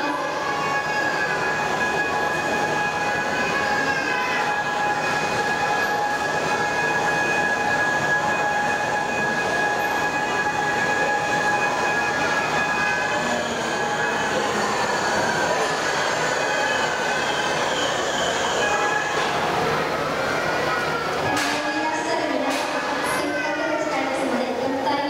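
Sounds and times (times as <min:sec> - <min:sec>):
crowd noise: 0:00.0 - 0:25.0
overhead crane whine: 0:00.0 - 0:25.0.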